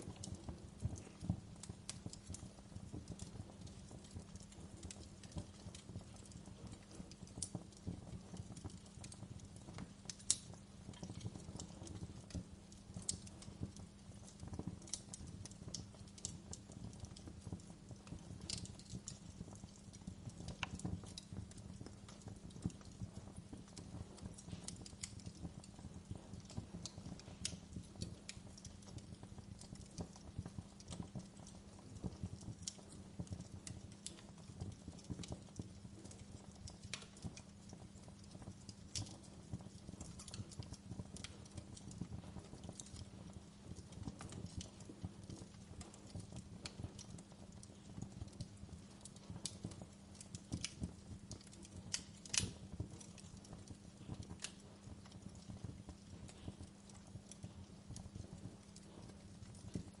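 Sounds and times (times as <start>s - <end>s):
low fire rumble: 0.0s - 60.0s
wood fire crackling: 0.0s - 60.0s.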